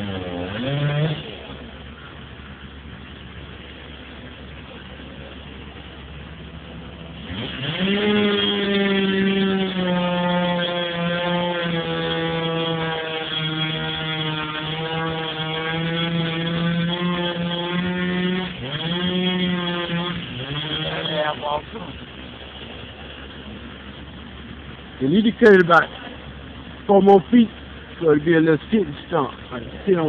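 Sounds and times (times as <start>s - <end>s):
chainsaw revving: 0.0s - 2.0s, 6.0s - 30.0s.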